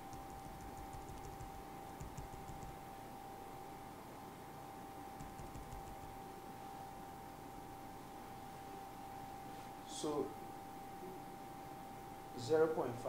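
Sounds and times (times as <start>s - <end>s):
low room noise: 0.0s - 13.0s
steady electrical tone: 0.0s - 13.0s.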